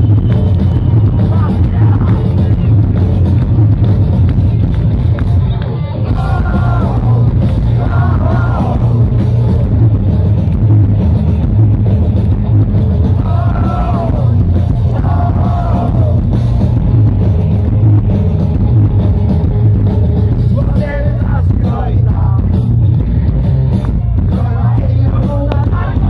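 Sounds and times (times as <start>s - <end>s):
heavy bass: 0.0s - 26.0s
live rock band playing loudly: 0.0s - 26.0s.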